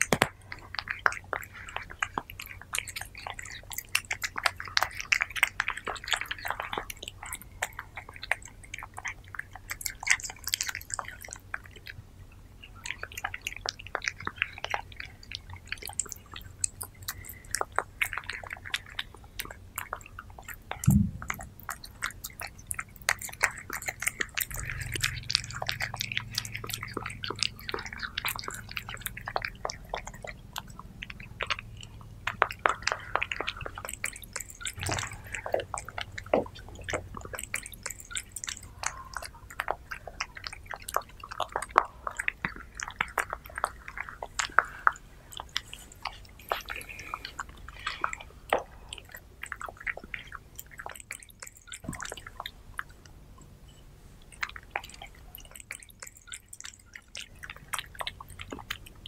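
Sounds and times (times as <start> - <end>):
cats licking and chewing: 0.0 - 59.0.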